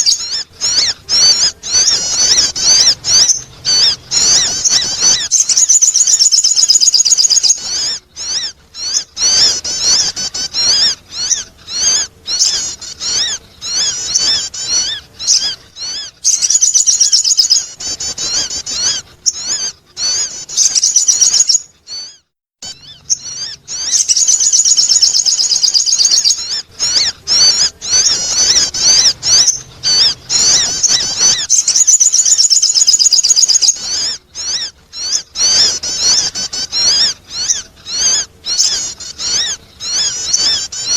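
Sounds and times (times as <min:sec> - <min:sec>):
bird twittering chirps and trills: 0:00.0 - 0:40.9.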